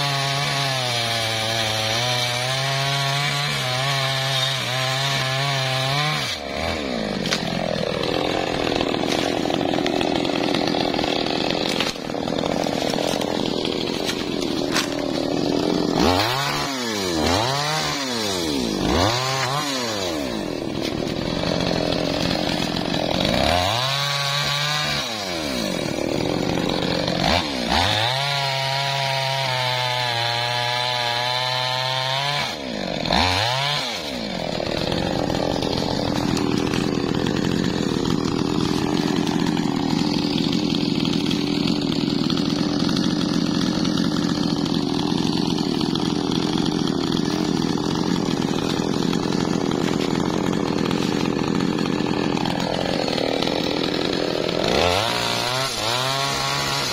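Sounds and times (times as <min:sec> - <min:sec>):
chainsaw cutting log: 0:00.0 - 0:56.9
chainsaw idling: 0:00.0 - 0:56.9.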